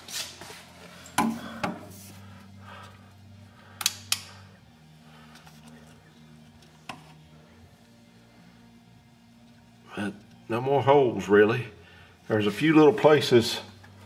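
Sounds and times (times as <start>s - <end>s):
low steady hum: 0.3s - 14.0s.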